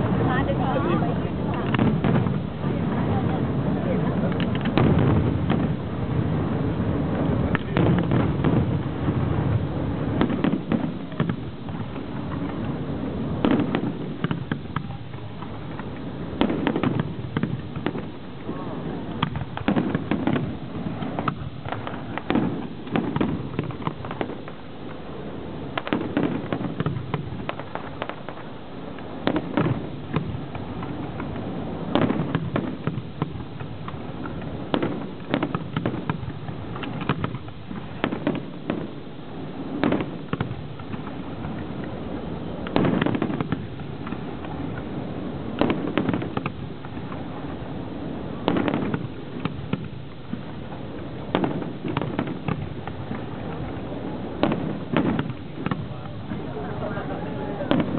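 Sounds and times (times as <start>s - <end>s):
firework bangs: 0.0s - 57.9s
firework crackle and rumble: 0.0s - 57.9s.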